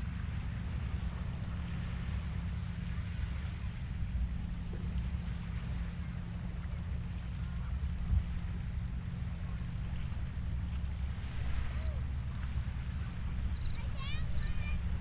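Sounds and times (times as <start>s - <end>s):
gentle surf on a beach: 0.0s - 15.0s.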